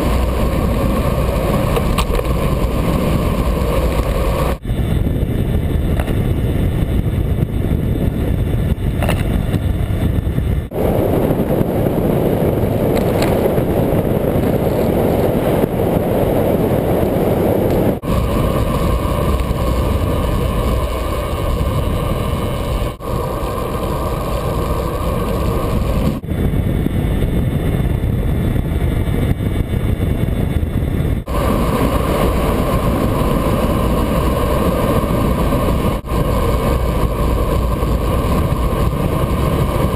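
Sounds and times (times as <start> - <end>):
bicycle tyre noise: 0.0 - 39.9
wind rushing on microphone: 0.0 - 39.9.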